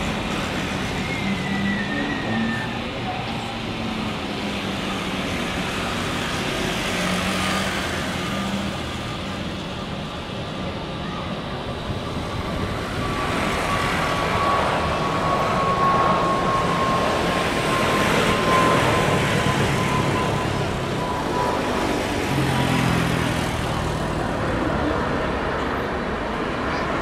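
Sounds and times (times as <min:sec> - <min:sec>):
jet engines landing: 0:00.0 - 0:27.0.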